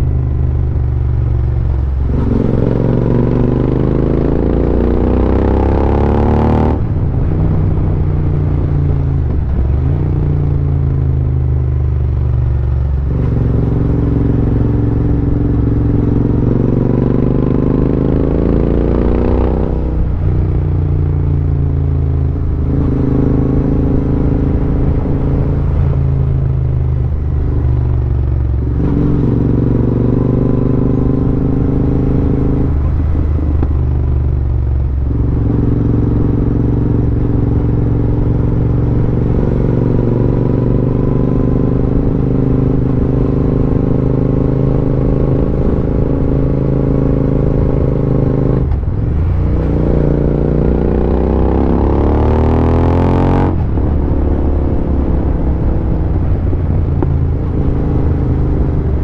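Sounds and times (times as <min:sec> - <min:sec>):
motorcycle engine revving: 0:01.3 - 0:11.3, 0:12.5 - 0:59.0.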